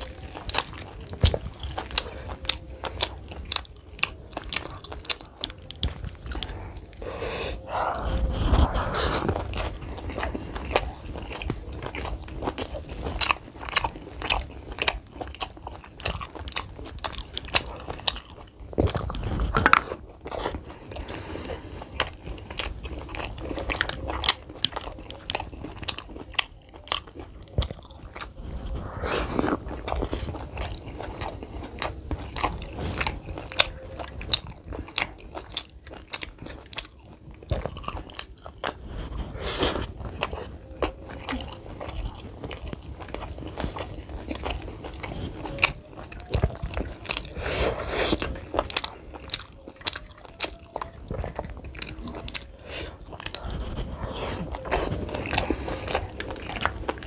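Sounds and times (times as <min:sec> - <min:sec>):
person chewing with wet smacks: 0:00.0 - 0:57.0.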